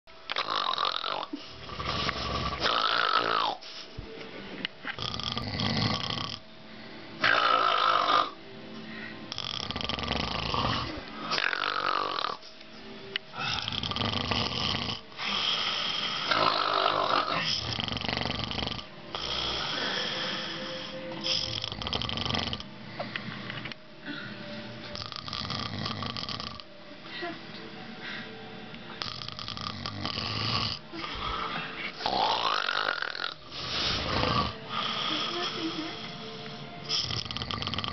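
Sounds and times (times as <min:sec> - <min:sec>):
people snoring heavily: 0:00.4 - 0:03.8, 0:04.9 - 0:06.4, 0:07.2 - 0:08.4, 0:09.0 - 0:12.4, 0:13.3 - 0:22.7, 0:24.1 - 0:26.7, 0:29.0 - 0:37.9.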